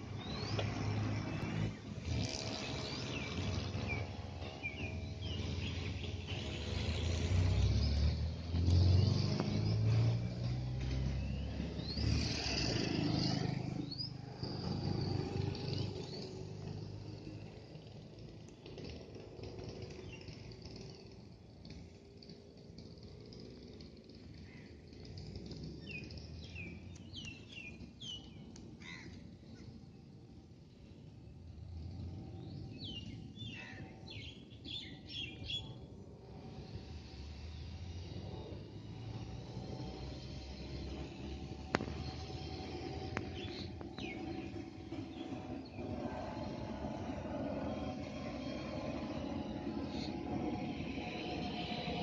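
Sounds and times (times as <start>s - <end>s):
small birds chirping: 0.0s - 22.9s, 24.1s - 31.4s, 32.1s - 52.0s
vehicle engine running: 0.0s - 52.0s.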